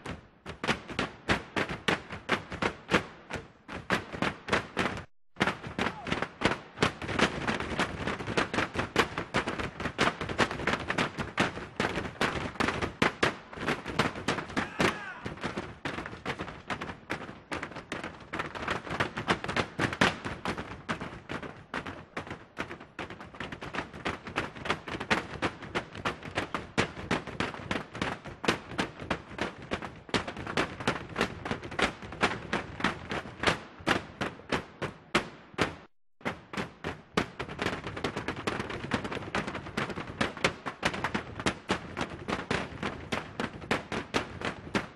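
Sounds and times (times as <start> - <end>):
wooden poles pounding a floor: 0.0 - 44.9.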